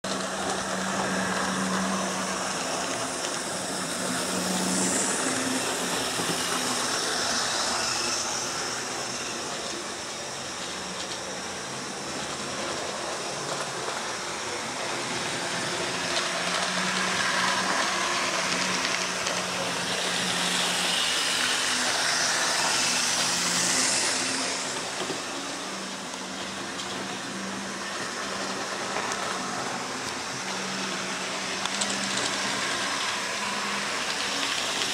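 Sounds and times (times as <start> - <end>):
small electric motors whirring: 0.1 - 34.9
wheels rattling on track: 0.1 - 34.9.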